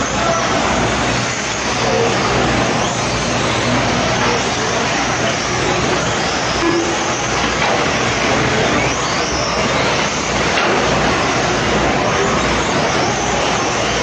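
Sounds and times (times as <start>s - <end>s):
motor whines: 0.0s - 14.0s.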